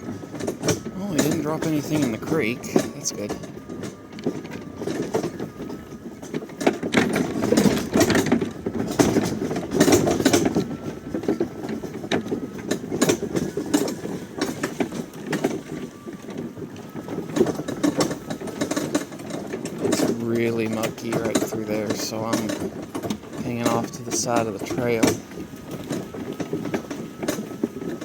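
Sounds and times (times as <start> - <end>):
clattering knocks and rattles: 0.0 - 28.0
faint motor whine: 0.0 - 28.0.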